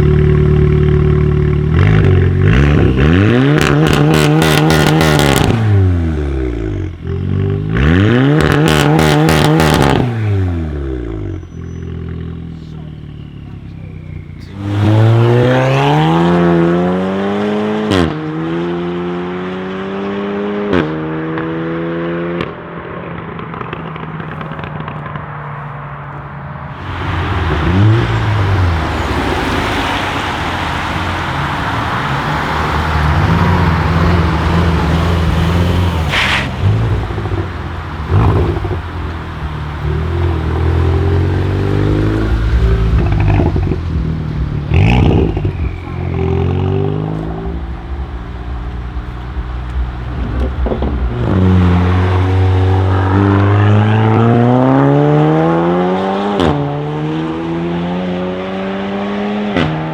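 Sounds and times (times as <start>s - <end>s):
exhaust cracks: 0.0s - 18.3s, 20.6s - 57.5s
car engine accelerating hard: 0.0s - 59.9s.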